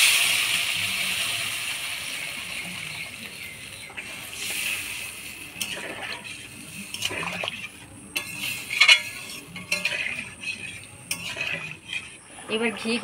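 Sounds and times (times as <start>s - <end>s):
spatula scraping cooking pan: 2.2s - 13.0s.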